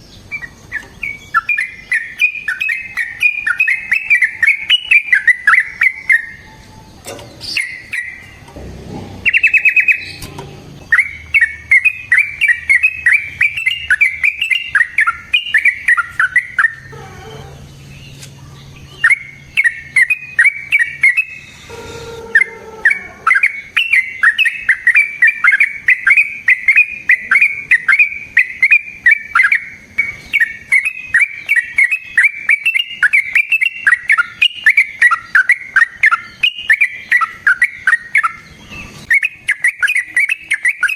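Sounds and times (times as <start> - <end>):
bird singing bubbling chirps: 0.0 - 40.9.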